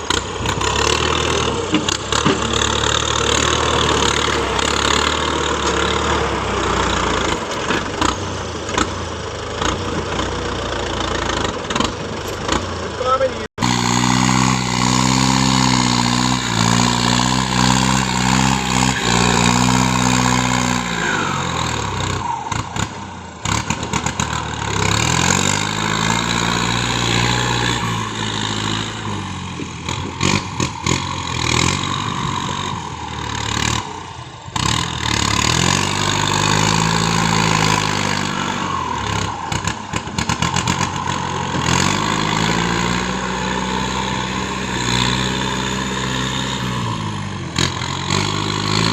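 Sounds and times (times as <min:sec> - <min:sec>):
large engine running hard: 0:00.0 - 0:48.9.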